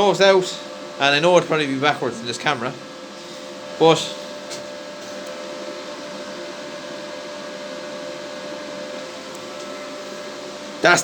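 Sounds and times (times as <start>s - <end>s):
fan machine whirring: 0.0s - 11.0s.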